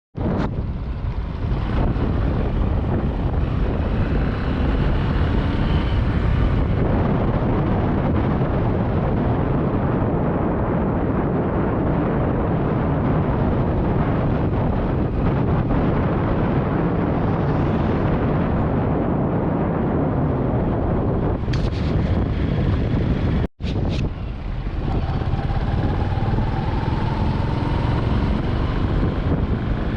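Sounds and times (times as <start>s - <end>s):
vehicle travel noise: 0.2s - 29.9s
wind buffeting microphone: 0.2s - 29.9s.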